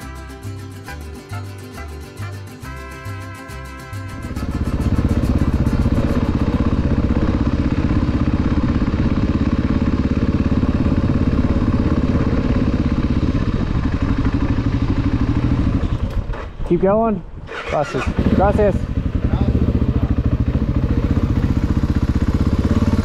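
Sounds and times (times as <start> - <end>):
motorcycle engine at low revs: 4.2 - 23.0.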